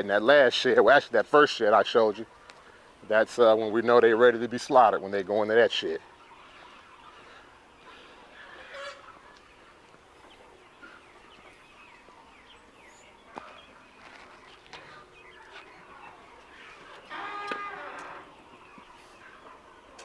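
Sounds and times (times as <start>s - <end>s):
chickens clucking: 0.6s - 20.0s.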